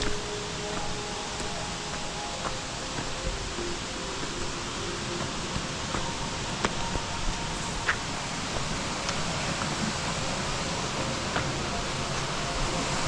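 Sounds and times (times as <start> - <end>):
hissing forest background: 0.0 - 13.0.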